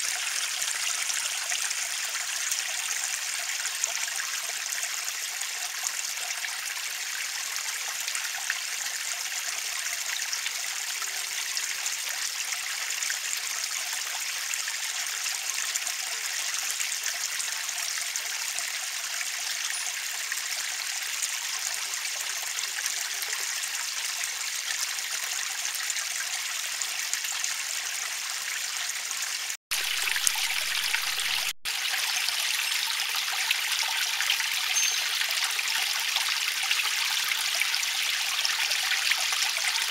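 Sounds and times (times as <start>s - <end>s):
water trickling over pebbles: 0.0s - 39.9s.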